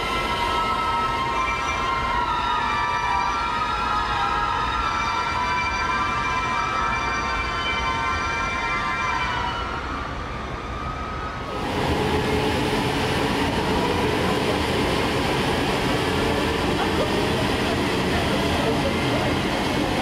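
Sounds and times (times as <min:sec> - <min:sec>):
train high whine: 0:00.0 - 0:20.0
train rumbling and rattling: 0:00.0 - 0:20.0.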